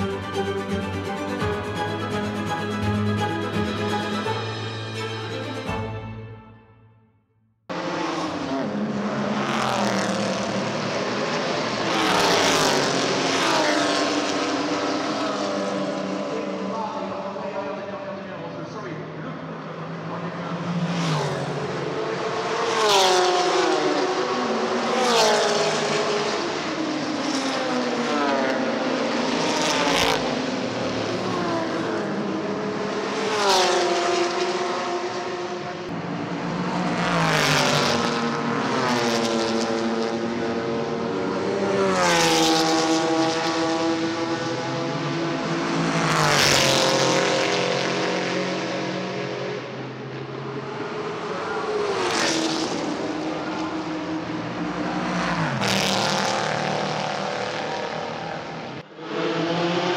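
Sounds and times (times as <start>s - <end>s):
racing cars passing at speed: 7.7s - 59.9s.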